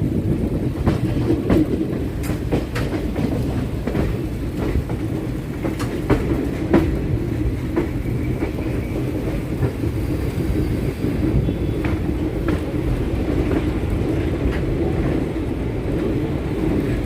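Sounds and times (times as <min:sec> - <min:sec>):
electric train rumbling: 0:00.0 - 0:17.0
wheels clicking over rail joints: 0:00.1 - 0:17.0.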